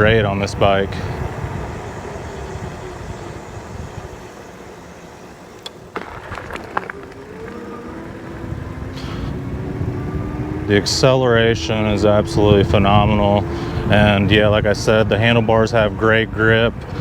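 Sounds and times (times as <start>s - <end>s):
electric motor whine rising: 0.0s - 17.0s.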